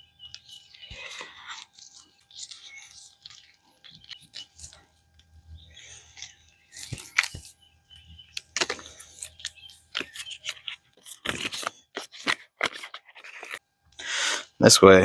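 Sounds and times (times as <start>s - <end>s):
electrical cord rustling: 0.0s - 13.6s.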